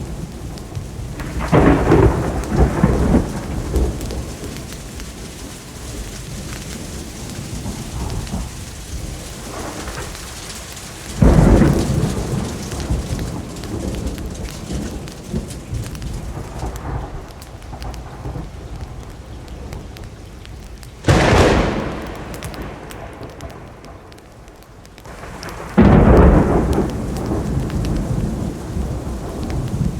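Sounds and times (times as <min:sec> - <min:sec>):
steady rain: 0:00.0 - 0:29.9
thunderclaps rumbling: 0:00.0 - 0:29.9.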